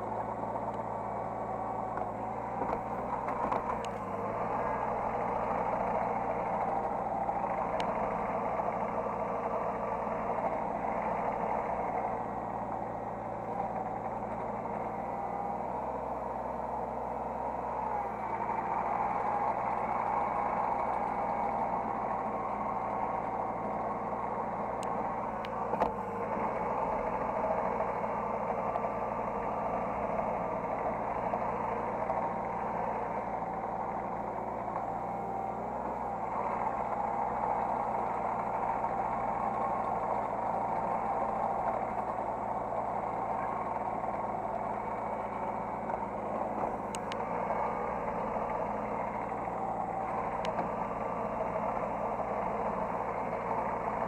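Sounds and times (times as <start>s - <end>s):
excavator diesel engine running: 0.0s - 54.0s
wavering whine: 0.0s - 54.0s.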